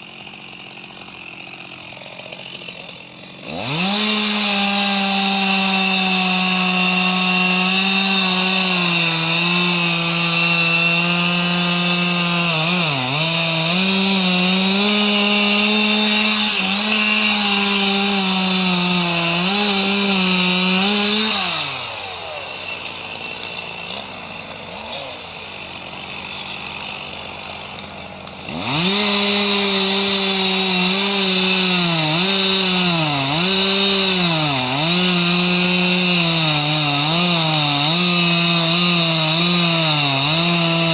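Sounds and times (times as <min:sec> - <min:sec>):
chainsaw cutting: 0:00.0 - 0:40.9.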